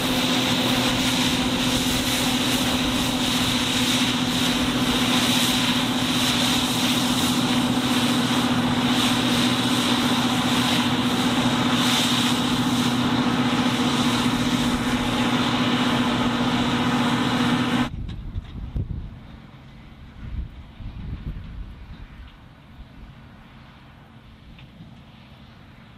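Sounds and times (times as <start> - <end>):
combine harvester running: 0.0 - 25.9.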